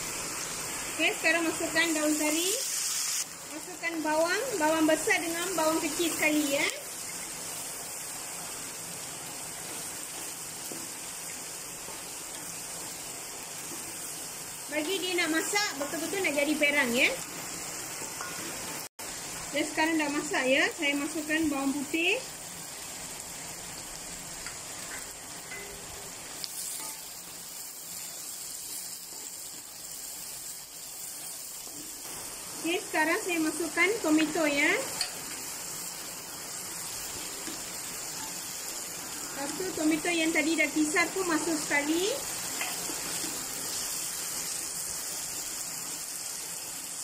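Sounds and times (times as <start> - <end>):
onions sizzling in hot oil: 0.0 - 47.0.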